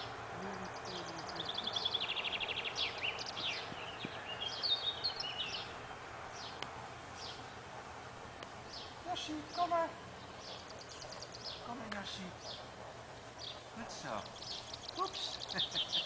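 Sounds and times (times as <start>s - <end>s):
songbirds singing: 0.0s - 16.0s
steady background noise: 0.0s - 16.0s.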